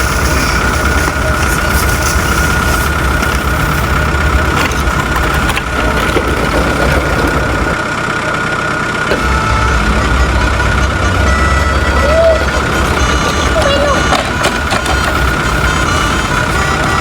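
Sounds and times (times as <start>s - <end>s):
constant high whine: 0.0s - 17.0s
engine low rumble: 0.0s - 17.0s.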